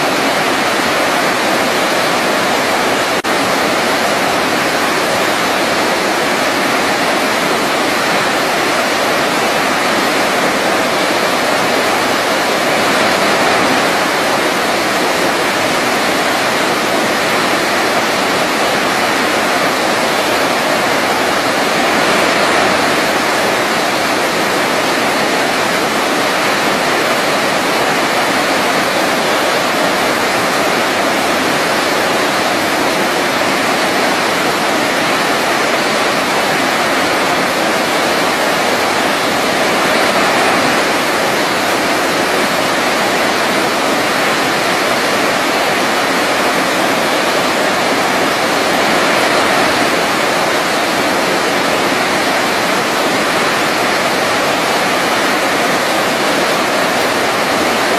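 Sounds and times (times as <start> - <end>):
waterfall pouring: 0.0 - 57.9.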